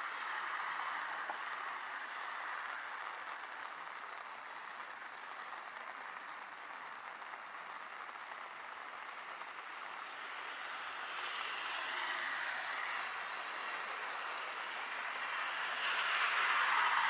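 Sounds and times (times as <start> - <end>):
rain hiss: 0.0 - 17.0
vehicle passing on wet road: 0.0 - 17.0.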